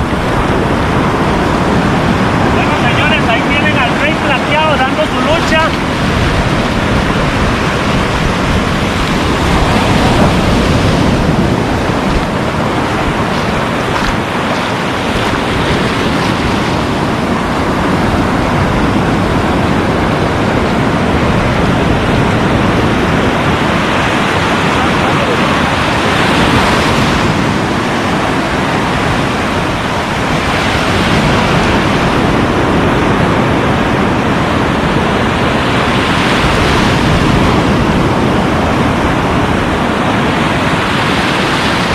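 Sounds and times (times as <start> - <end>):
surf breaking on shore: 0.0 - 41.9
wind on microphone: 0.0 - 41.9.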